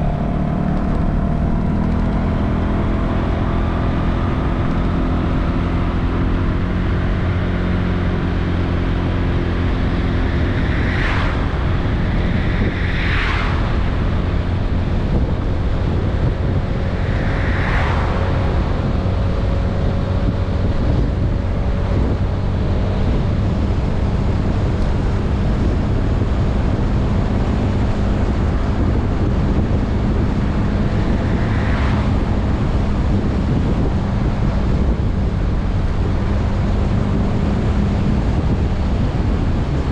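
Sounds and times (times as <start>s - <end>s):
vehicles passing whooshes: 0.0s - 39.9s
wind rushing over microphone: 0.0s - 39.9s.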